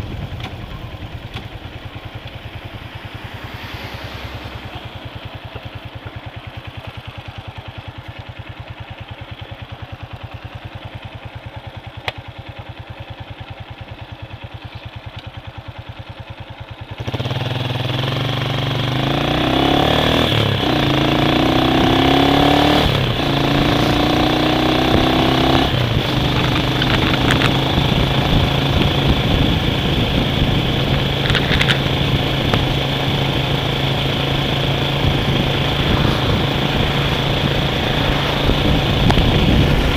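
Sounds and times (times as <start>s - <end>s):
wind and road noise: 0.0s - 9.3s, 17.0s - 39.9s
vehicle engine: 0.0s - 39.9s.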